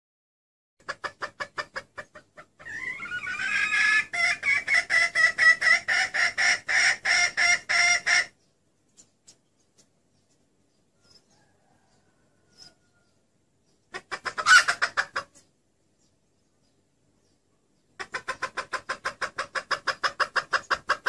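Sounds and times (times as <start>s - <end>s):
hen clucking and calling: 0.8s - 21.0s.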